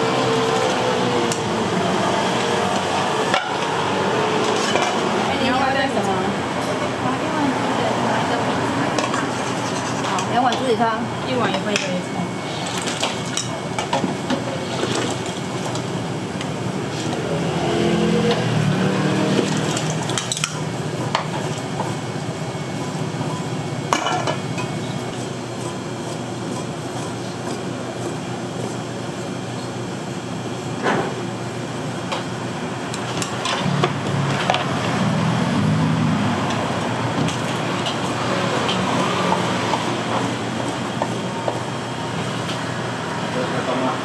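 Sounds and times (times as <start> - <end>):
steady background noise: 0.0 - 44.0.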